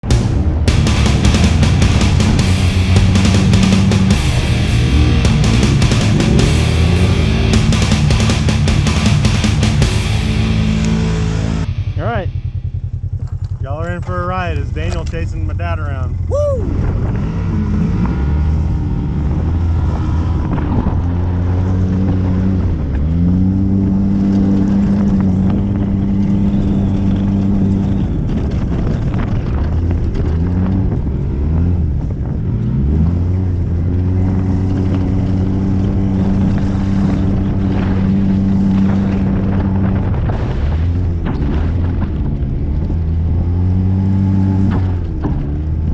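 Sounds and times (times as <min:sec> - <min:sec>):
off-road vehicle engine running hard: 0:00.0 - 0:45.9.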